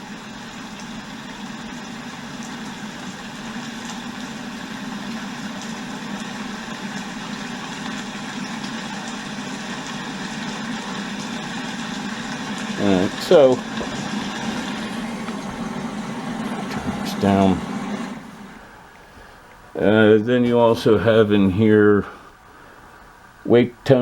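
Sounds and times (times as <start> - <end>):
rain recording through small speaker: 0.0 - 24.0.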